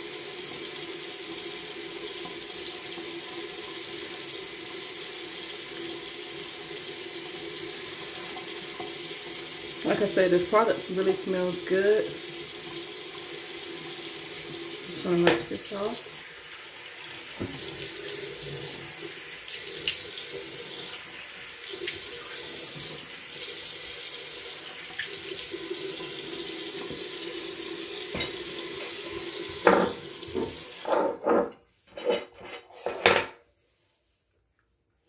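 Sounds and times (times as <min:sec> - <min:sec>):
sink tap running: 0:00.1 - 0:31.0.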